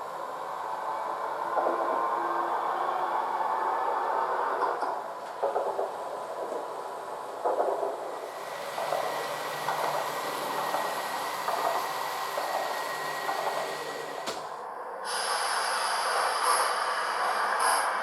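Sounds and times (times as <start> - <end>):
train running with whine: 0.0 - 18.0.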